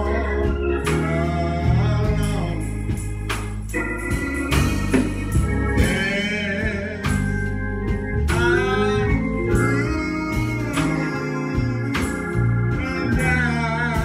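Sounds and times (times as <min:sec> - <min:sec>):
church organ playing chords: 0:00.0 - 0:14.0.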